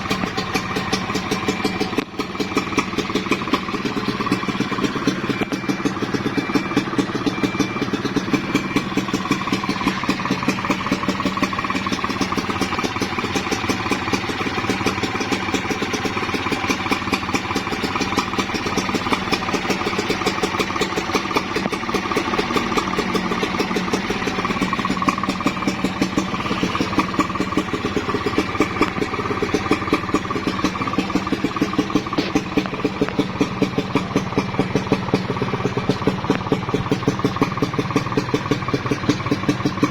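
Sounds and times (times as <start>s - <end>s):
two-stroke engine idling: 0.0s - 39.9s.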